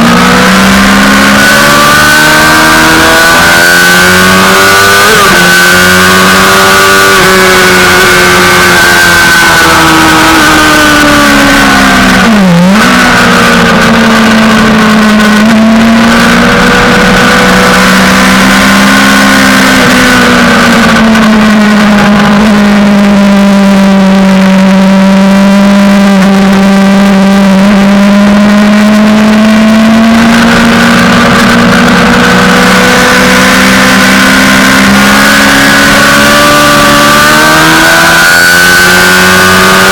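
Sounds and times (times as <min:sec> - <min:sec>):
motorbike engine at high revs: 0:00.0 - 0:39.9.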